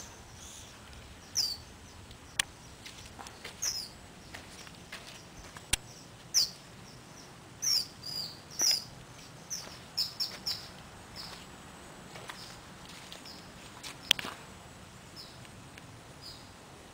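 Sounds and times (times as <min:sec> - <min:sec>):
small birds chirping: 0:00.0 - 0:14.4, 0:15.1 - 0:15.6, 0:16.2 - 0:16.6.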